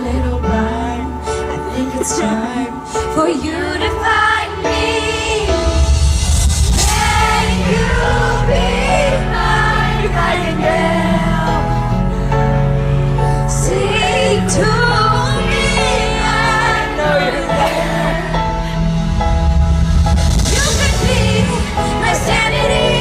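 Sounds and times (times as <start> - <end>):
person singing pop ballad: 0.0 - 12.2, 13.2 - 19.0, 20.4 - 23.0
backing track: 0.0 - 23.0.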